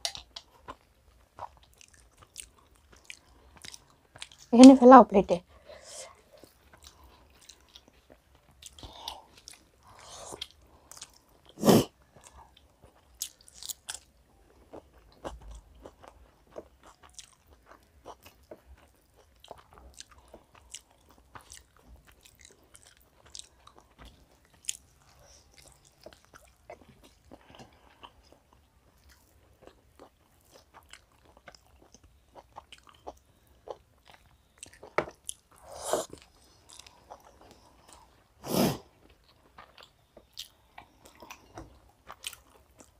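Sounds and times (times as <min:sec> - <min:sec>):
chewing: 0:00.0 - 0:04.5, 0:06.0 - 0:42.9.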